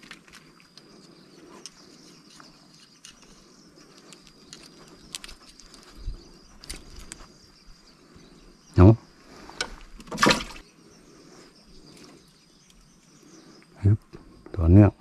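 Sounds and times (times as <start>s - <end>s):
faint high insect trilling: 0.0s - 15.0s.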